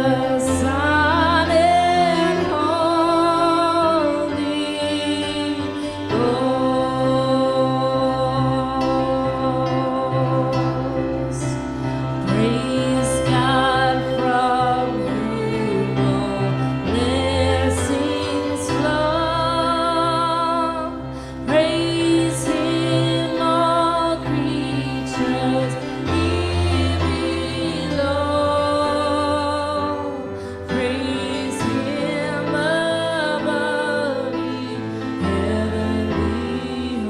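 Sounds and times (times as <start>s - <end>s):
person singing long notes with vibrato: 0.0s - 37.0s
sustained instrumental chords: 0.0s - 37.0s.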